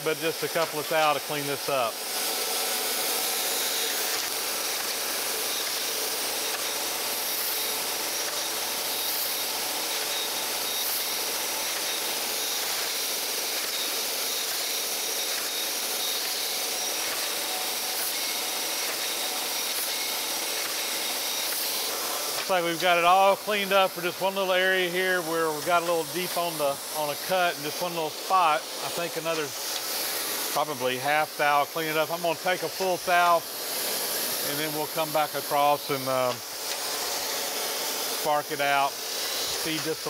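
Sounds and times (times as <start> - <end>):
grinder wheel grinding steel: 0.3 - 40.0.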